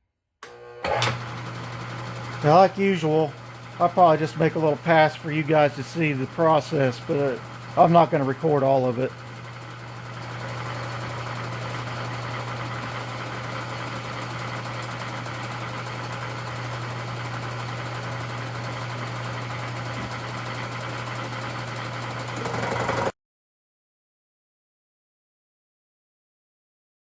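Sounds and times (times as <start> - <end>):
milling machine motor hum: 0.4 - 23.1.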